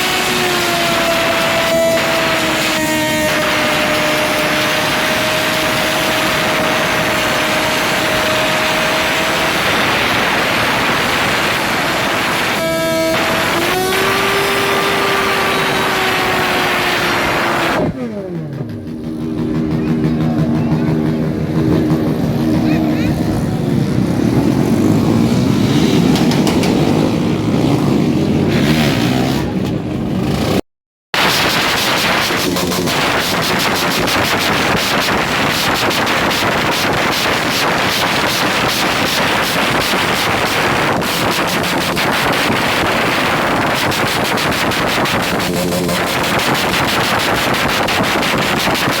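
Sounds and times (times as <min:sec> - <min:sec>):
loud rushing noise: 0:00.0 - 0:30.6, 0:31.2 - 0:49.0
motorcycle engine at high revs: 0:00.0 - 0:49.0.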